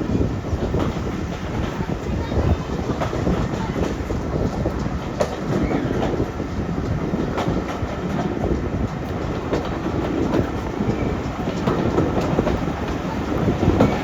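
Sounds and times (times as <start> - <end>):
train rumbling along track: 0.0 - 14.0
wheels clicking over rail joints: 0.0 - 14.0.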